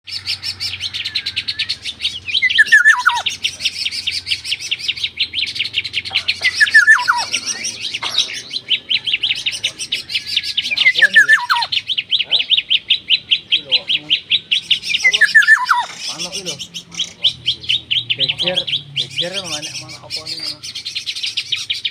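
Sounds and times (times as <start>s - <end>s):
descending bird notes: 0.0s - 21.9s
songbirds chirping: 0.0s - 21.9s.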